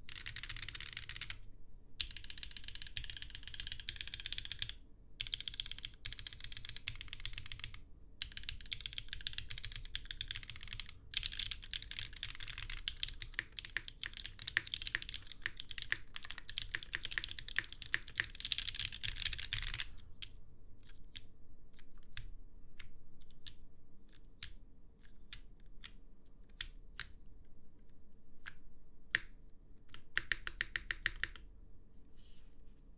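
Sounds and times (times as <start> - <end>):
typing on mechanical keyboard: 0.0 - 27.2, 28.4 - 31.5.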